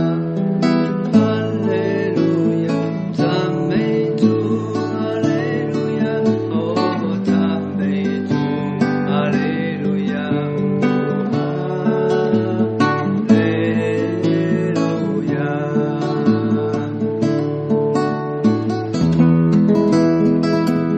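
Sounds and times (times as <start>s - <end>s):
acoustic guitar strumming: 0.0s - 20.9s.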